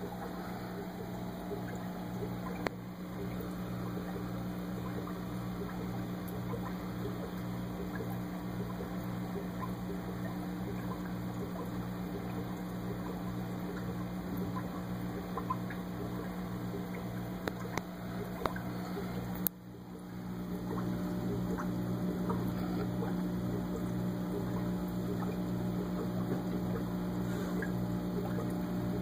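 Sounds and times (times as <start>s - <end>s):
aquarium air pump humming: 0.0s - 29.0s
faint bubbling and popping: 0.0s - 29.0s.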